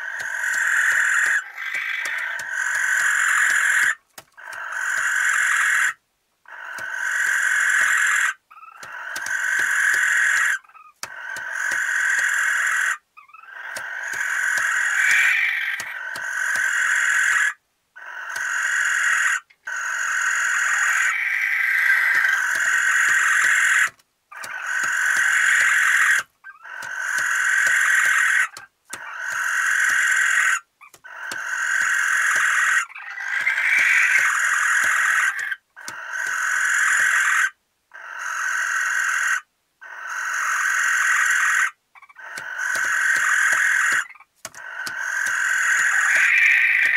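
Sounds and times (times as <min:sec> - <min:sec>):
barn owl rasping hissing calls: 0:00.0 - 0:46.9.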